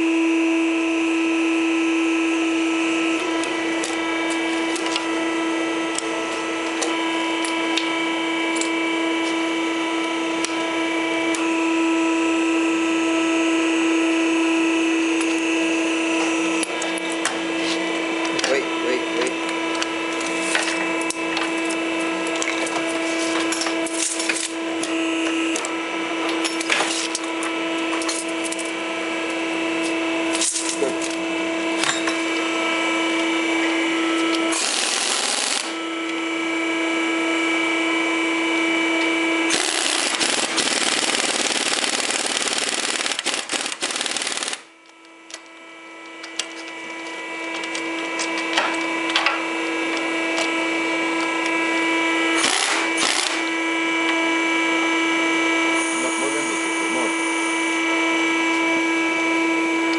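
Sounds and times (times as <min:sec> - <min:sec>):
crimping press humming: 0:00.7 - 0:59.9.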